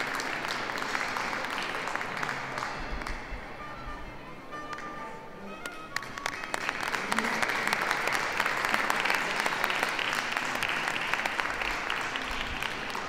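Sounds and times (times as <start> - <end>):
crowd applauding: 0.0 - 3.3, 5.6 - 13.0.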